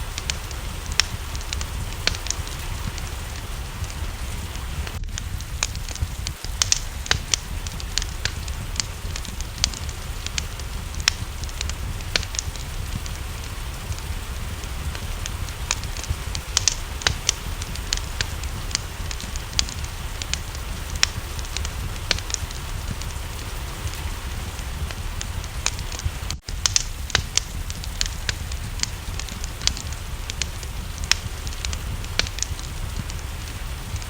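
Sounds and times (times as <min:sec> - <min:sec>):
steady rain: 0:00.0 - 0:34.0
wood fire crackling and popping: 0:00.0 - 0:34.0.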